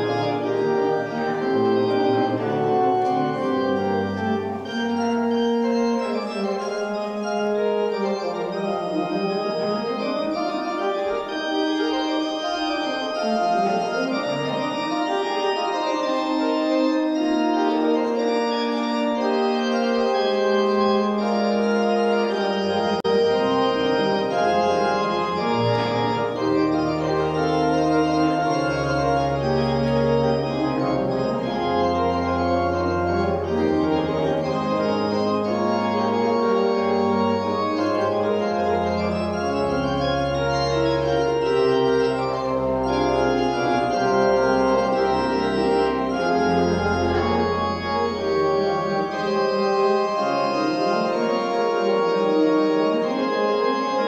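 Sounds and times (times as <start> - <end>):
church organ playing: 0.0 - 54.0.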